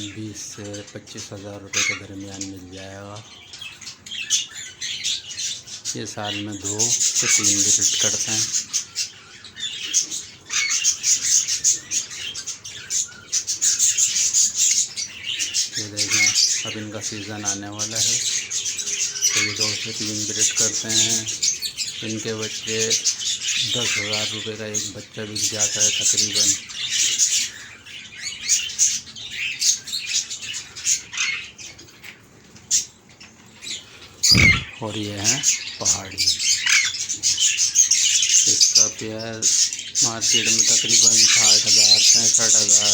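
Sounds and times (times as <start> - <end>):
flock of birds chirping: 0.0 - 42.9.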